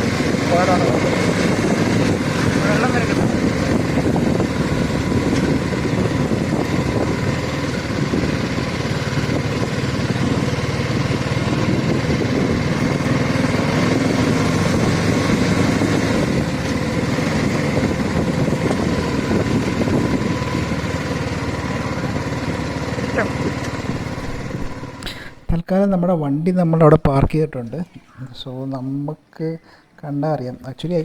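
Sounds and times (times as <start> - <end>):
motorcycle engine running at low revs: 0.0 - 25.1.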